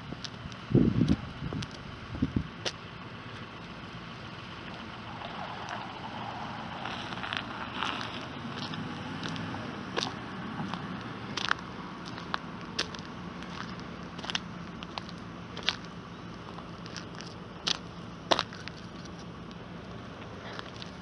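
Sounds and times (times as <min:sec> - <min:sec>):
footsteps on gritty asphalt: 0:00.0 - 0:01.8, 0:02.6 - 0:03.8, 0:06.7 - 0:21.0.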